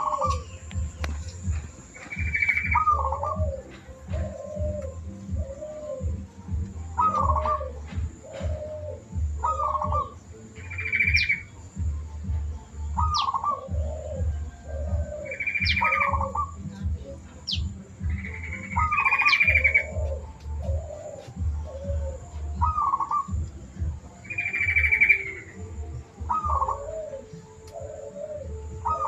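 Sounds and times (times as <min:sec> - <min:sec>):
buzzy bird trills: 0:00.0 - 0:29.0
doves cooing: 0:00.0 - 0:29.0.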